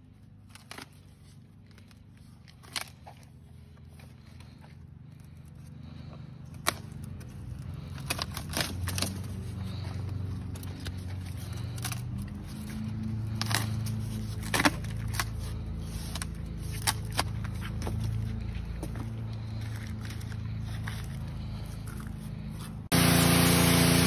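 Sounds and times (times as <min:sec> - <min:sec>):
low motor hum: 0:00.0 - 0:24.0.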